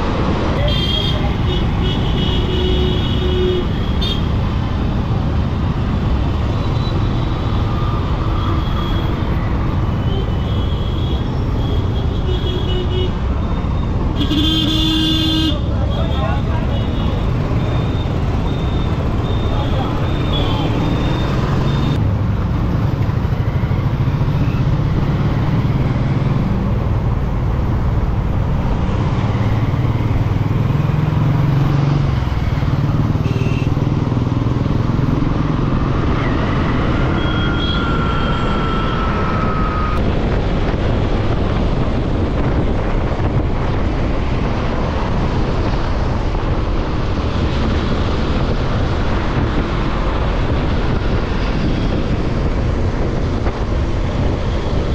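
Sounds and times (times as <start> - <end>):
road traffic with engines running: 0.0 - 54.9.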